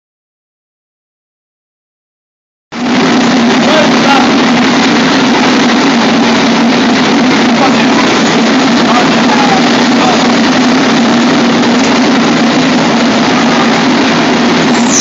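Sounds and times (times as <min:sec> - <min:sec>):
loud machinery roar: 0:02.7 - 0:15.0.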